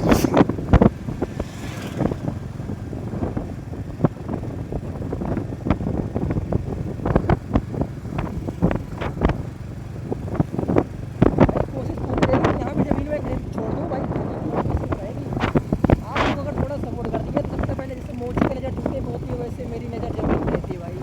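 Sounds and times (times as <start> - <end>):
motorcycle engine rumble: 0.0 - 21.0
wind buffeting microphone: 0.0 - 21.0.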